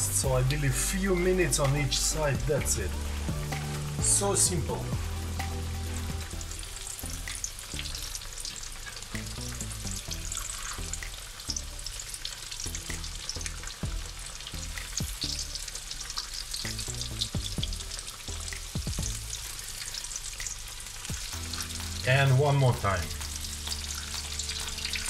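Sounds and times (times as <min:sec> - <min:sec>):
fish frying in oil: 0:00.2 - 0:25.0.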